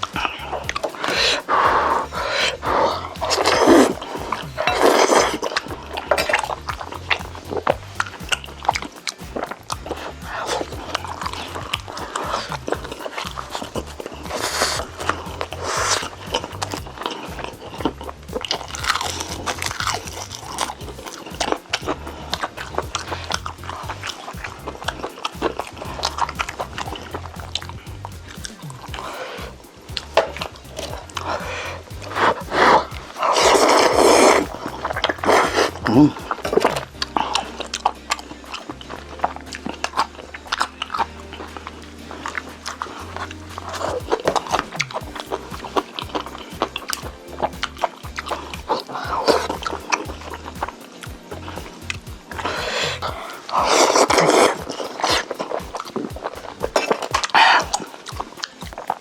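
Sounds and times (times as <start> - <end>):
background music with low bass: 0.0 - 59.0
chewing mouth clicks and smacks: 0.0 - 59.0.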